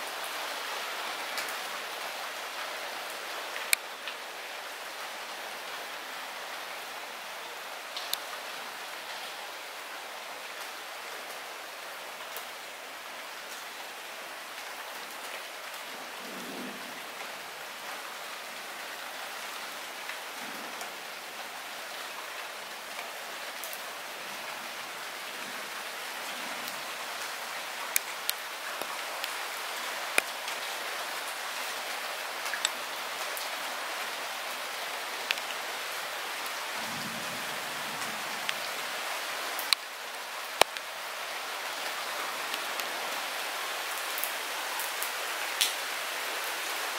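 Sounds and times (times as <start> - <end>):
light rain hiss: 0.0 - 46.9.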